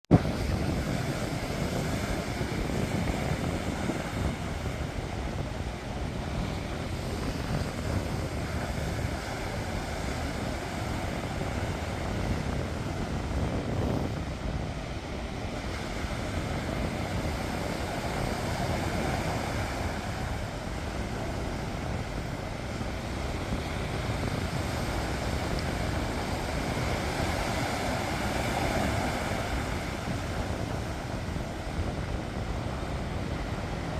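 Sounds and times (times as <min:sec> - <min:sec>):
sea waves washing onto shore: 0:00.1 - 0:33.9
wind buffeting microphone: 0:00.1 - 0:33.9.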